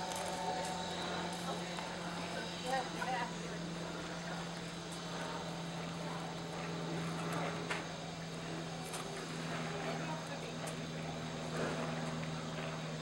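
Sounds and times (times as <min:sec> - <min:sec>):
engine drone: 0:00.0 - 0:13.0
open-air background noise: 0:00.0 - 0:13.0.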